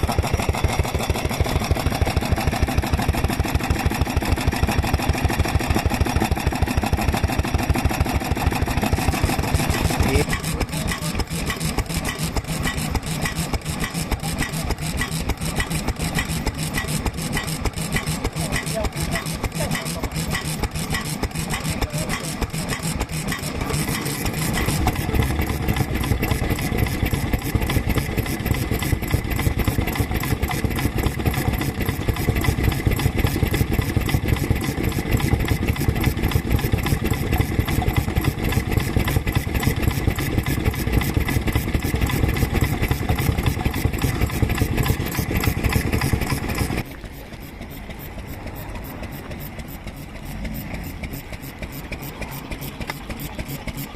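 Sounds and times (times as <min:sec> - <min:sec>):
stationary engine running: 0:00.0 - 0:53.9.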